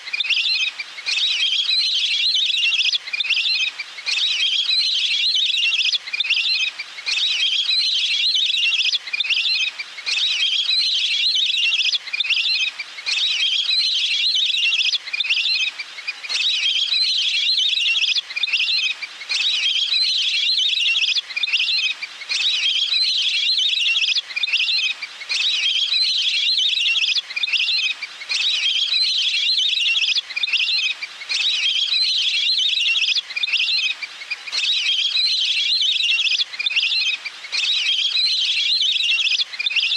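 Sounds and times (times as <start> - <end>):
high-pitched bird trilling calls: 0.0 - 39.9.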